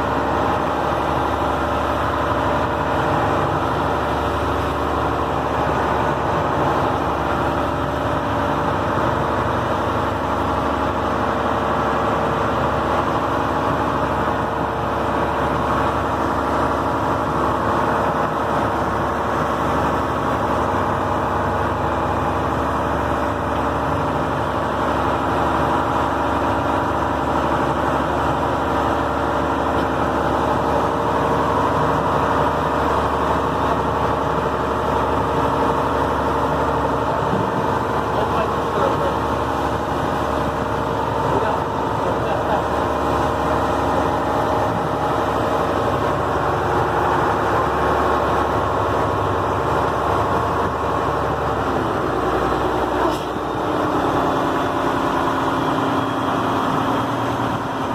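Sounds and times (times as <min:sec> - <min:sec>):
boat engine droning: 0:00.0 - 0:57.9.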